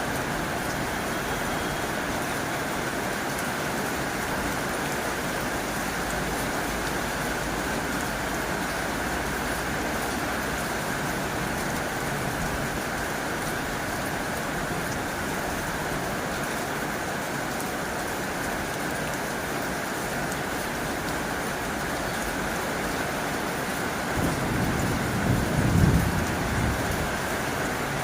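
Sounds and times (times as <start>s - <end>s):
heavy rain on a tin roof: 0.0s - 28.0s.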